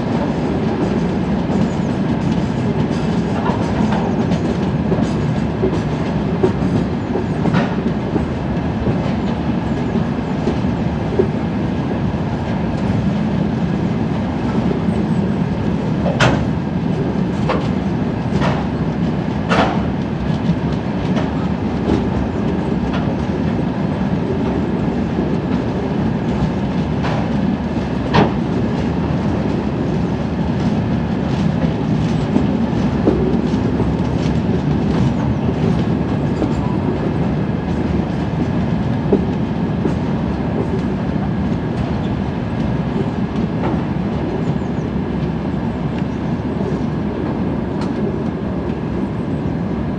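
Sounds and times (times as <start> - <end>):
freight wagons rolling on rails: 0.0 - 49.9.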